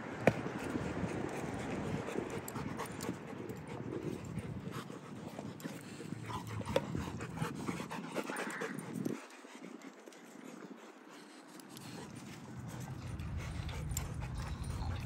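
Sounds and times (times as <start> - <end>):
dogs panting: 0.2 - 15.0
small clicks and scuffs: 0.3 - 15.0.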